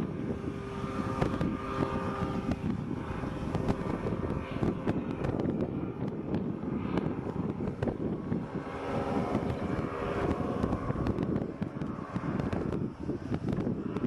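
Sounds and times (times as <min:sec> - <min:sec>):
aircraft engine drone: 0:00.0 - 0:14.0
wind buffeting microphone: 0:00.0 - 0:14.0.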